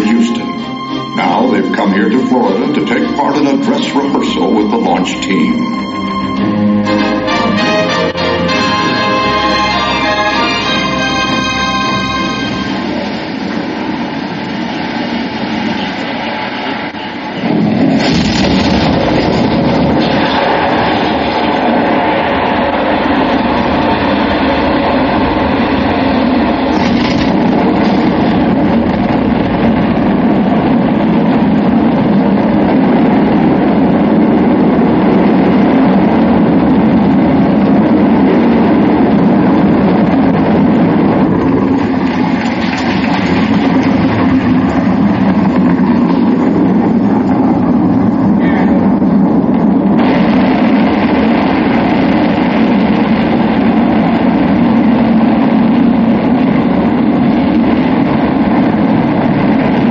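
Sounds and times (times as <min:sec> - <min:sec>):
loud rocket roar: 0:00.0 - 0:59.9.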